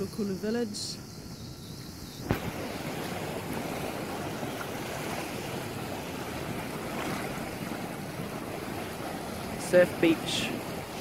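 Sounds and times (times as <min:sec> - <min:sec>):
wind: 0:00.0 - 0:11.0
surf washing over rocks: 0:01.9 - 0:11.0.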